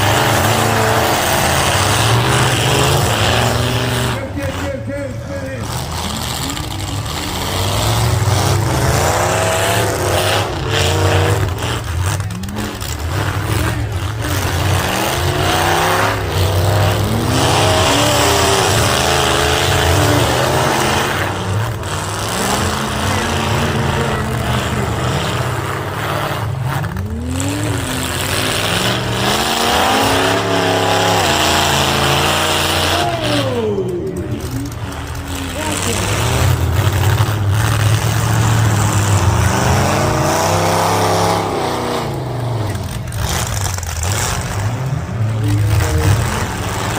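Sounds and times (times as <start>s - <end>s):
car engines revving hard: 0.0s - 46.9s.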